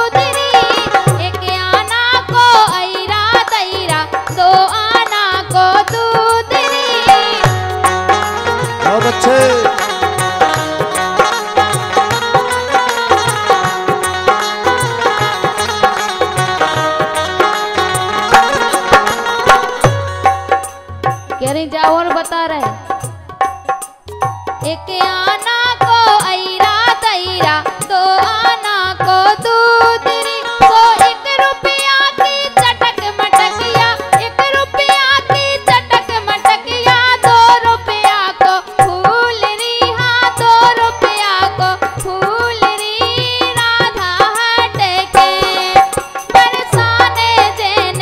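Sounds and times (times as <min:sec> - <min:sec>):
woman singing into microphone: 0:00.0 - 0:16.8, 0:21.3 - 0:23.3, 0:24.5 - 0:48.0
hand drum beat: 0:00.0 - 0:31.1, 0:31.7 - 0:48.0
harmonium: 0:00.0 - 0:48.0.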